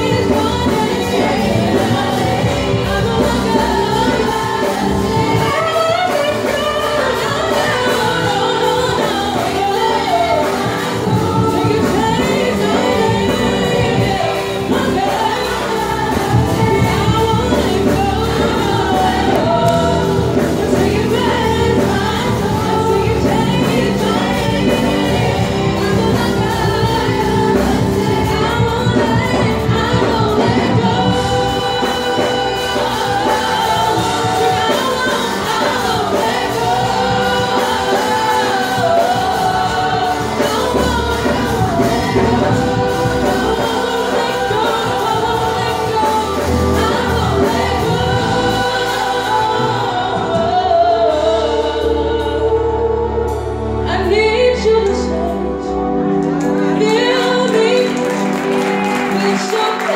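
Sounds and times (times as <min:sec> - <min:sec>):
vocal group singing gospel: 0:00.0 - 0:59.9.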